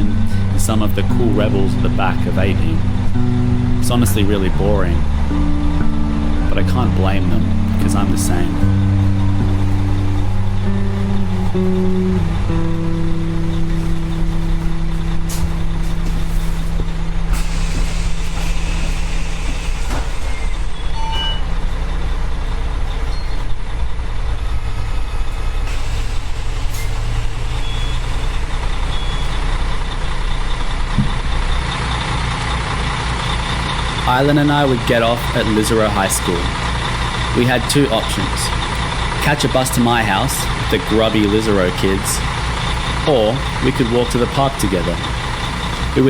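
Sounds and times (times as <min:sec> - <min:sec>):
bus engine running: 0:00.0 - 0:46.0.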